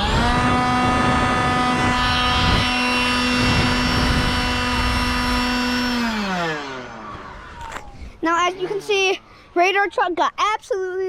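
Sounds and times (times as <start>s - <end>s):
electric blower whining: 0.0s - 10.2s.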